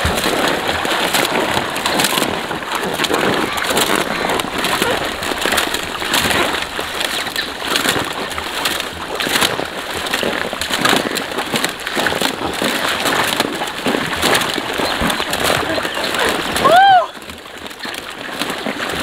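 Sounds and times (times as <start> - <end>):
water splashing from swimming: 0.0 - 19.0.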